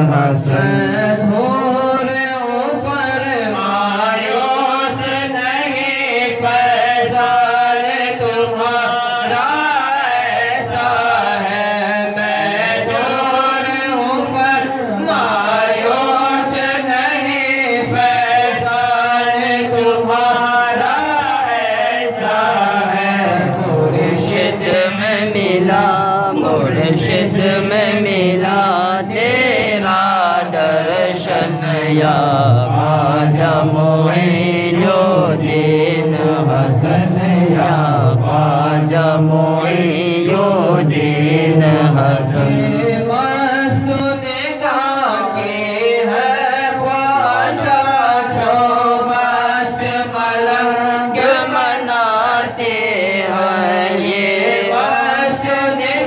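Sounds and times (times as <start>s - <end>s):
men singing devotional chant: 0.0s - 56.0s.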